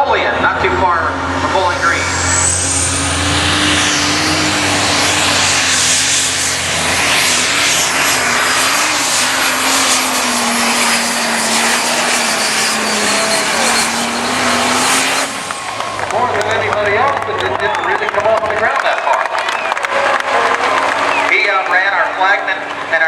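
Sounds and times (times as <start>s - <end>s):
loud tractor engine: 0.0s - 23.0s.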